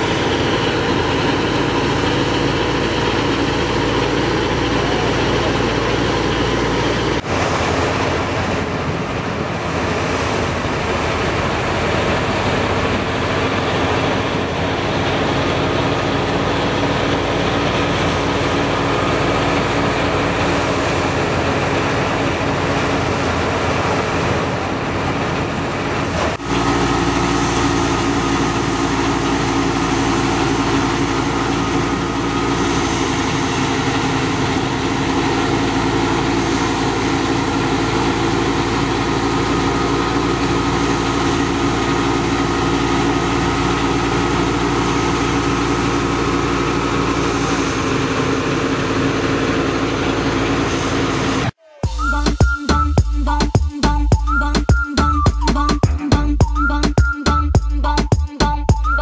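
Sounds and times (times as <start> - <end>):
thresher drum and fan whirring: 0.0 - 59.0
tractor engine: 0.0 - 59.0.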